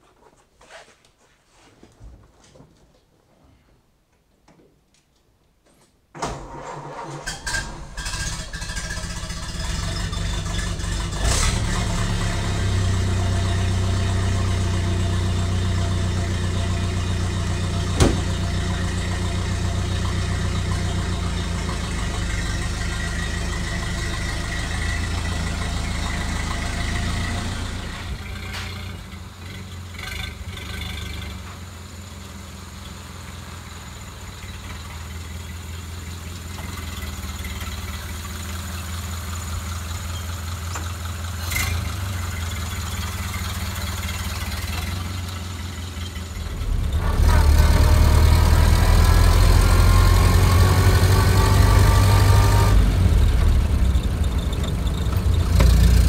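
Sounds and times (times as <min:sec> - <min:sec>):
car engine starting and running: 0:06.2 - 0:56.0.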